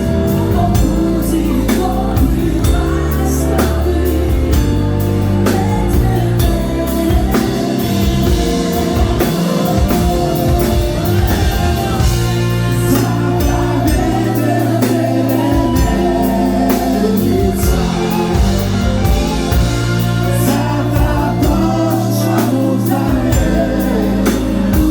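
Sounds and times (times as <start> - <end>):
live band music: 0.0 - 24.9
steady drum beat: 0.0 - 24.9
woman singing: 0.0 - 24.9.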